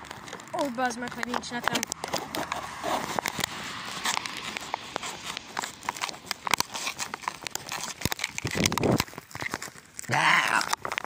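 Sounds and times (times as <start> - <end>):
phone handling rustling: 0.0 - 10.1
sharp clicks: 0.0 - 11.0.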